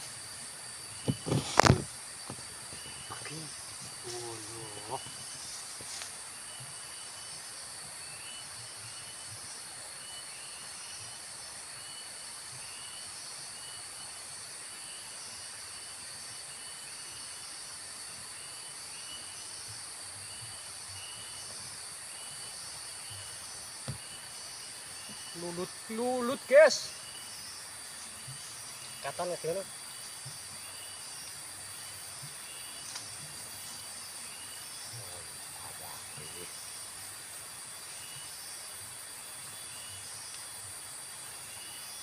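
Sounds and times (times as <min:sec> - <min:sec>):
high-pitched insect drone: 0:00.0 - 0:42.0
insect chirp: 0:00.0 - 0:42.0.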